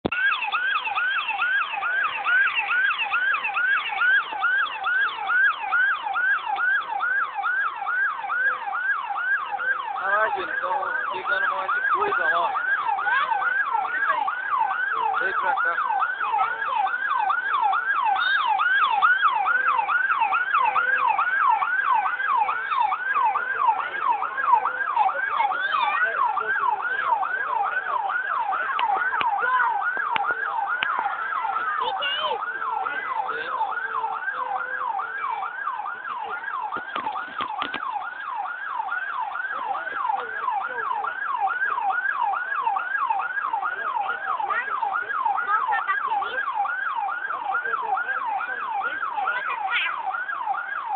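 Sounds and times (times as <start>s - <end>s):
siren yelping: 0.0s - 50.9s.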